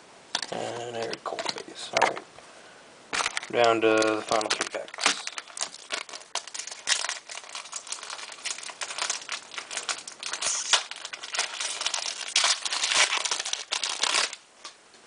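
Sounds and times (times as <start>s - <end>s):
wrapper crinkling: 0.4s - 2.2s, 3.1s - 14.5s.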